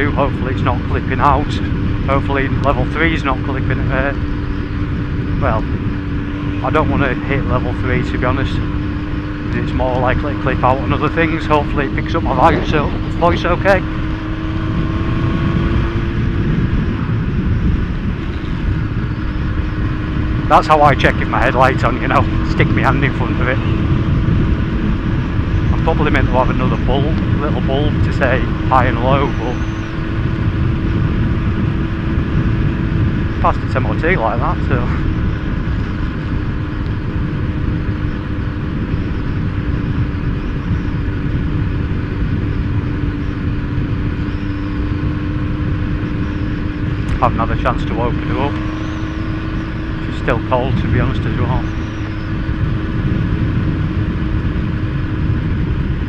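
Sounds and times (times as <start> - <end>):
motorcycle engine running: 0.0 - 56.0
road rumble: 0.0 - 56.0
wind buffeting microphone: 0.0 - 56.0.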